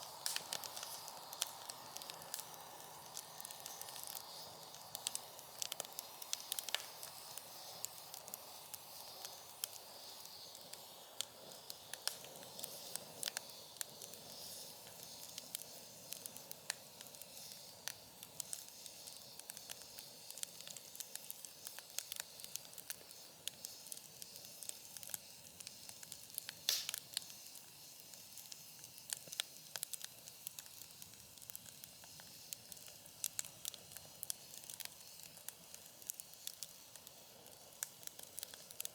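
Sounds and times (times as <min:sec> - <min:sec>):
faint hiss of burning wood: 0:00.0 - 0:38.9
wood fire crackling and popping: 0:00.0 - 0:38.9.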